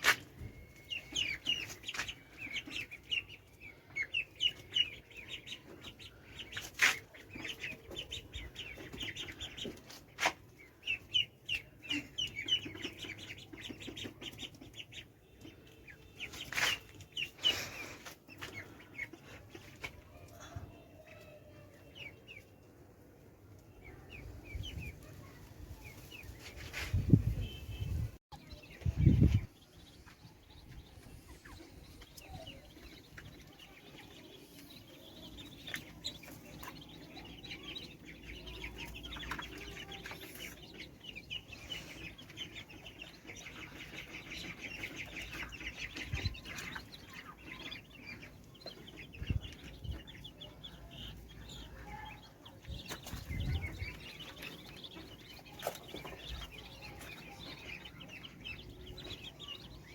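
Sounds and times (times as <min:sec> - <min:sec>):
ducks peeping and clucking: 0:00.0 - 0:59.9.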